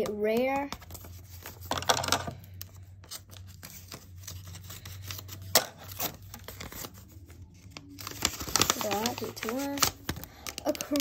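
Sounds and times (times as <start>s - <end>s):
paper rustling: 0.6s - 11.0s.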